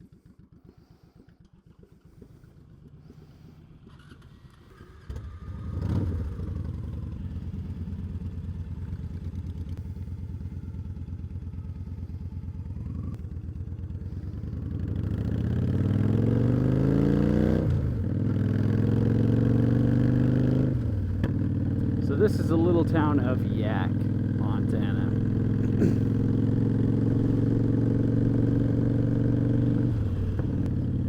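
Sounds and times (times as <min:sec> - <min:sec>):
motorcycle engine revving and idling: 0:00.0 - 0:31.0.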